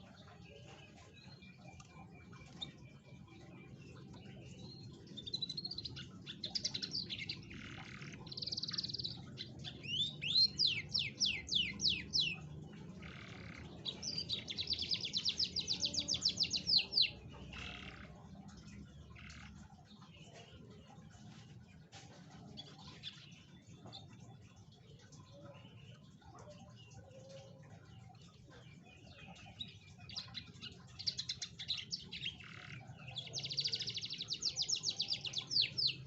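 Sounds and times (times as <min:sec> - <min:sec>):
canary singing: 0:00.0 - 0:21.4, 0:22.4 - 0:36.0.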